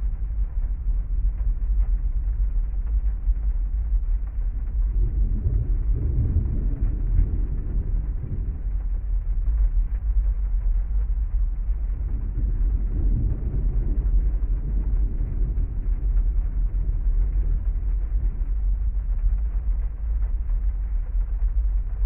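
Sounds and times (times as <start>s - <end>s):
heavy rain on a car muffled: 0.0s - 22.0s.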